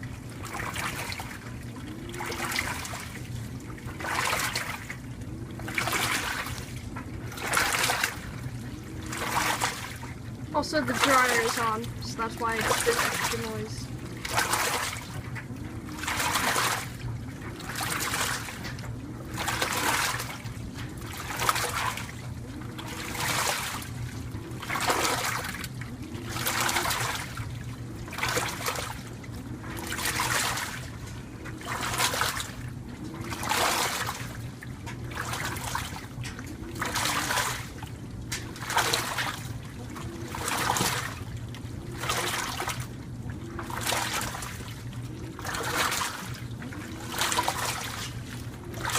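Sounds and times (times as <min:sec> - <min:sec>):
clothes dryer humming: 0:00.0 - 0:48.9
washing machine motor whir: 0:00.0 - 0:48.9
washing machine water swishing: 0:00.0 - 0:48.9.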